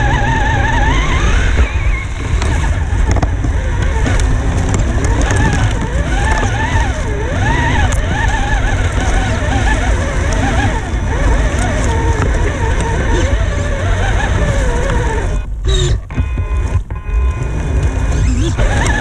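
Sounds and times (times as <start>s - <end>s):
electric motor and gears whining: 0.0s - 19.0s
low rumble on rough ground: 0.0s - 19.0s.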